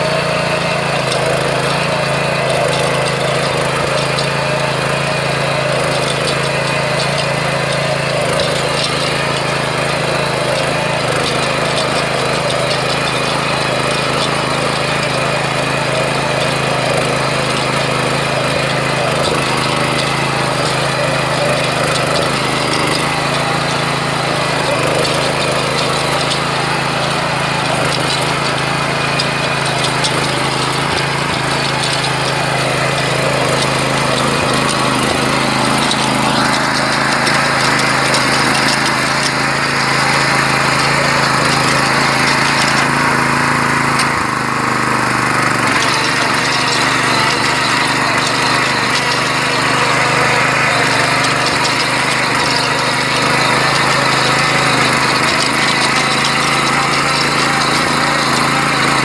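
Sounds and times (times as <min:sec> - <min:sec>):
power tiller engine running: 0:00.0 - 0:59.0
tines churning through soil: 0:00.0 - 0:59.0.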